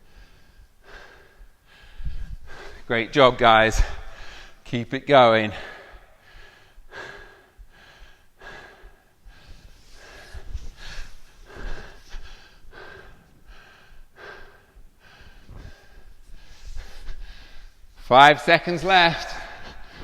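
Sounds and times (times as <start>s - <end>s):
man breathing hard: 0.0s - 4.7s, 5.3s - 18.0s, 19.3s - 20.0s.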